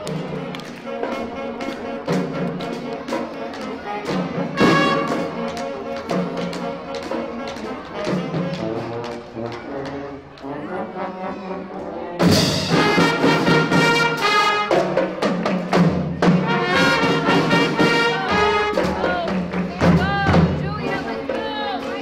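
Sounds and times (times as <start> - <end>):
steady drum beat: 0.0 - 10.0, 12.2 - 22.0
marching band brass: 0.0 - 22.0.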